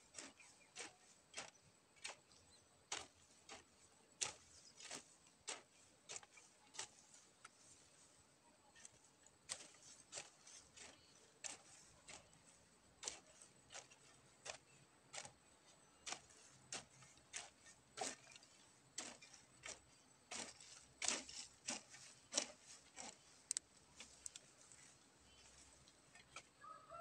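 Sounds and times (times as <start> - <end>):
hoe chopping into soil: 0.1 - 7.7, 9.4 - 15.4, 16.0 - 24.4.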